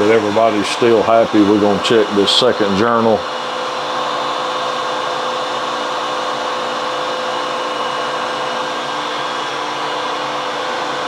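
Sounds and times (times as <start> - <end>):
metal lathe motor hum: 0.0 - 11.0.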